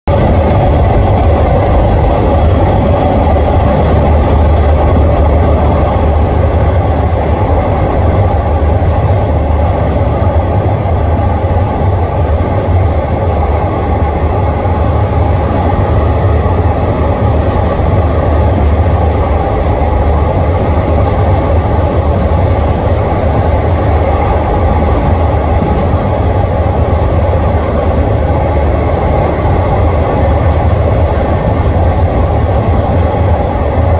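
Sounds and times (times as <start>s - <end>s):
train low rumble: 0.0s - 33.9s
wheel-on-rail noise: 0.1s - 33.9s.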